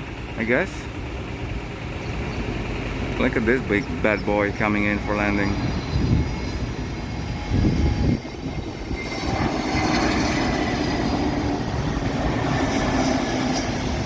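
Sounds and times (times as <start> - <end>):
airliner engine rumble: 0.0 - 14.0.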